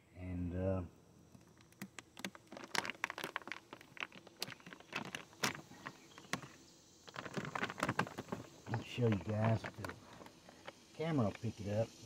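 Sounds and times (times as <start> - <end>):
wooden hive frame creaking and snapping: 1.2 - 11.5.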